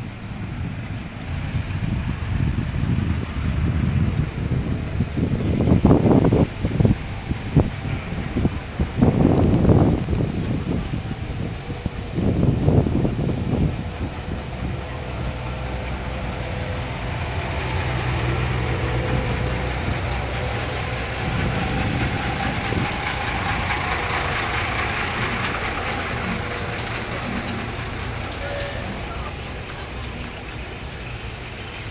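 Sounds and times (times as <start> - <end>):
vehicles driving over cobbles: 0.0 - 31.9.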